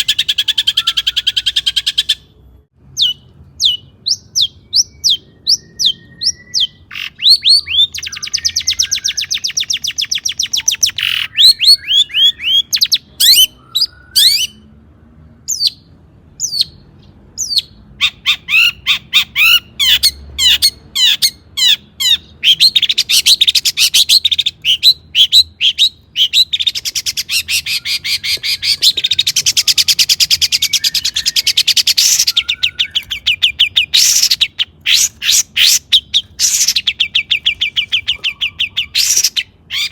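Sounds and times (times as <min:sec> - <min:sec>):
shrike singing: 0:00.0 - 0:02.3, 0:02.9 - 0:14.7, 0:15.5 - 0:39.9.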